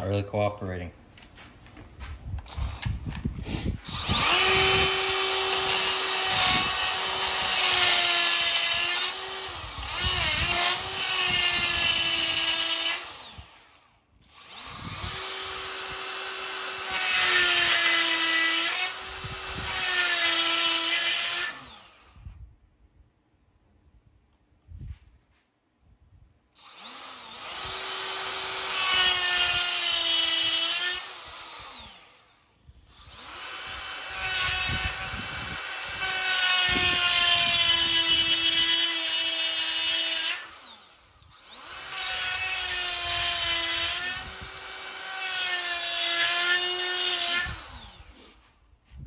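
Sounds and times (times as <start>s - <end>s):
die grinder whining: 2.3s - 22.3s, 26.6s - 48.5s.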